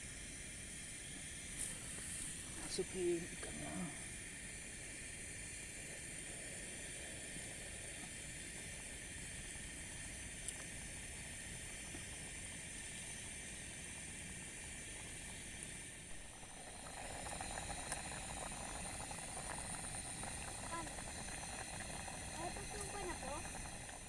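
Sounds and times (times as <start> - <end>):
fish hissing in a pot: 0.0 - 24.0.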